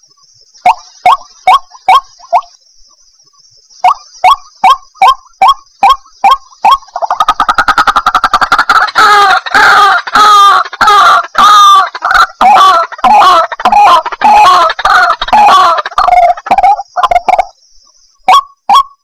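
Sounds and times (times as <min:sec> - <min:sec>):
waterhen calling: 0:00.6 - 0:02.5, 0:03.8 - 0:17.5.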